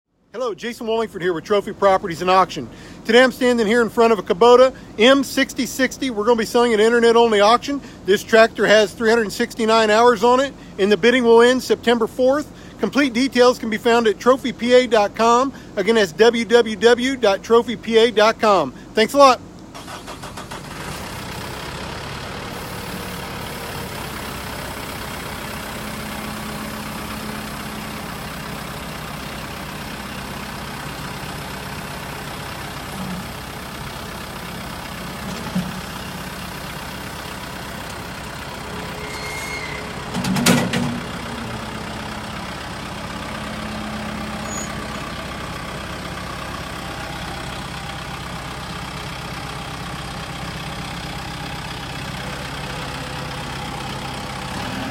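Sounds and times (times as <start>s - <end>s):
tractor diesel engine idling: 0.1s - 54.9s.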